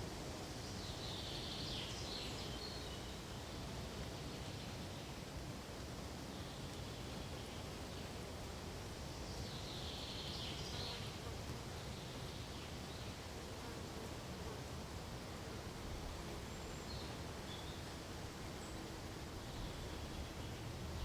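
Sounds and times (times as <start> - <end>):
soft rustling hiss: 0.0 - 21.0.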